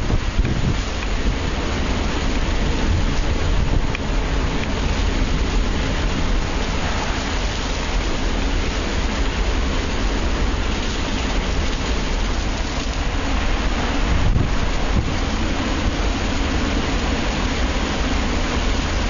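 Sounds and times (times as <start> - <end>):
deep rumble of wind: 0.0 - 19.0
heavy rain rushing: 0.0 - 19.0.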